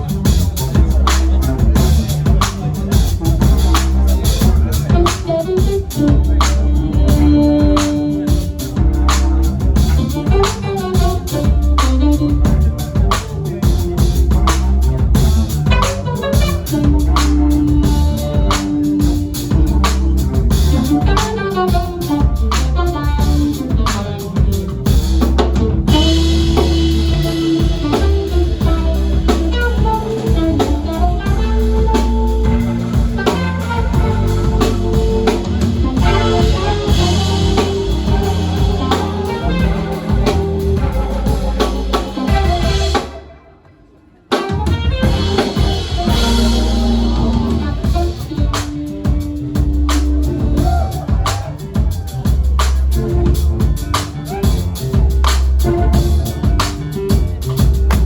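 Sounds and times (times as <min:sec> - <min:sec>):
drum kit: 0:00.0 - 0:43.4, 0:44.3 - 0:58.0
live band playing: 0:00.0 - 0:58.0.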